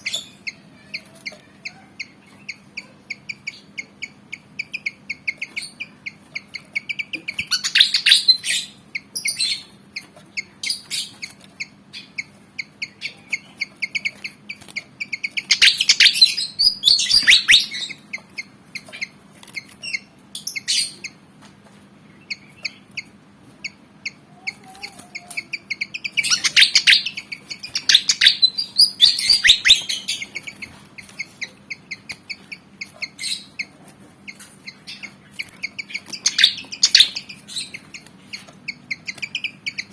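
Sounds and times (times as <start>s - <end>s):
bird chattering: 0.0s - 21.2s, 22.1s - 39.9s
bird chirping: 0.0s - 21.2s, 22.0s - 39.9s.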